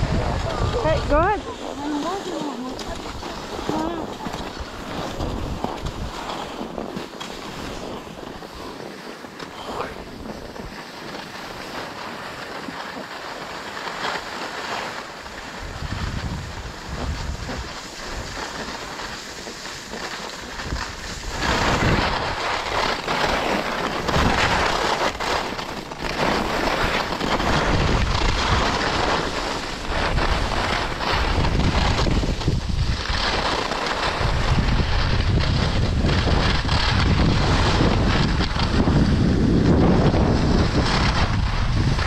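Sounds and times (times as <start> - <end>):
wind buffeting microphone: 0.0 - 13.1, 15.2 - 42.0
skis scraping over packed snow: 0.0 - 42.0.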